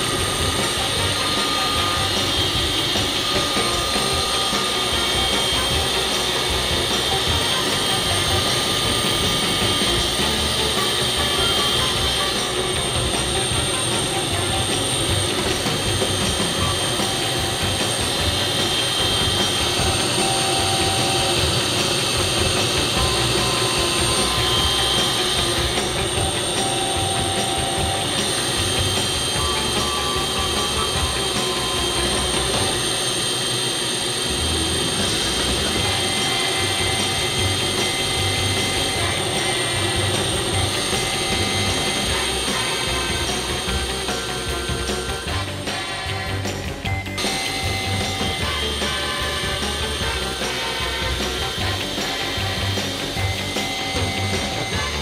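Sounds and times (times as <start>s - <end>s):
helicopter engine and rotor idling: 0.0s - 55.0s.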